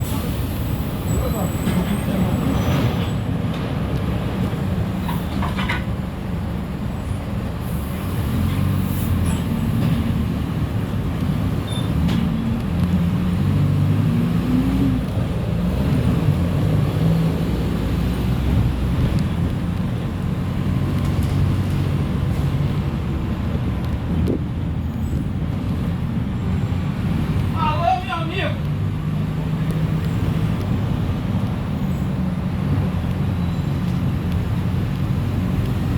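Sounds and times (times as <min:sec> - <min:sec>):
bus diesel engine: 0:00.0 - 0:35.9.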